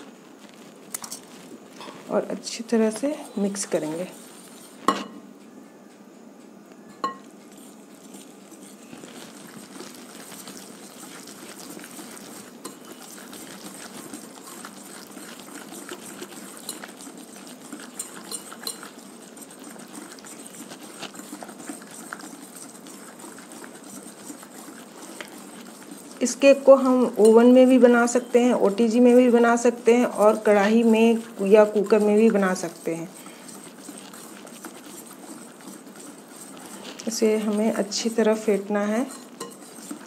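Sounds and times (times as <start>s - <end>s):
wire whisk scraping glass bowl: 1.0s - 5.2s, 7.0s - 40.0s.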